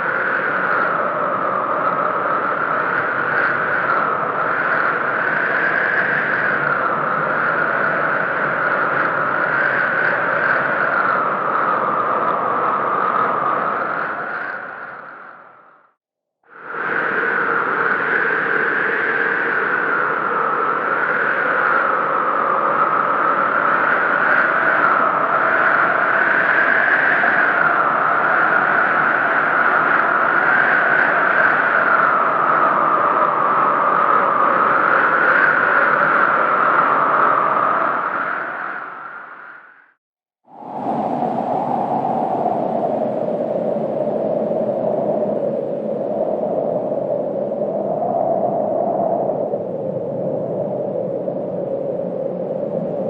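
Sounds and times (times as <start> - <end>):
howling snowstorm wind: 0.0 - 53.0.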